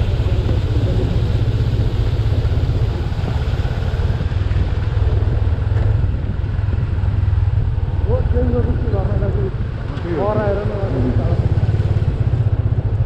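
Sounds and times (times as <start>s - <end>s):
motorcycle engine rumbling: 0.0s - 13.0s
road and wind noise: 0.0s - 13.0s.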